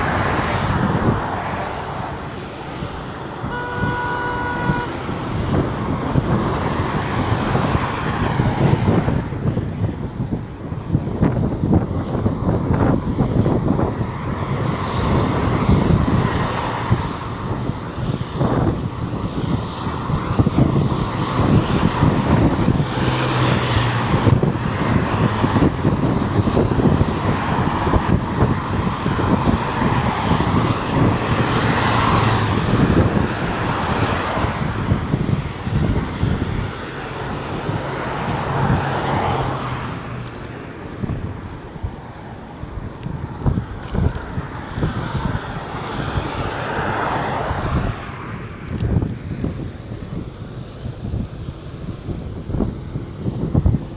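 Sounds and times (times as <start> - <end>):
highway traffic rumble: 0.0 - 53.9
vehicles passing close: 0.0 - 53.9.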